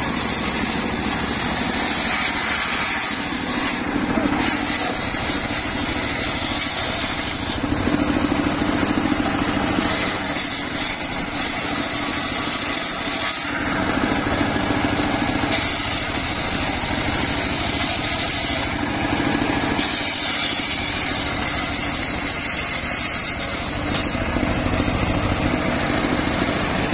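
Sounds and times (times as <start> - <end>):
saw blade whining through wood: 0.0 - 26.9
saw machine running: 0.0 - 26.9.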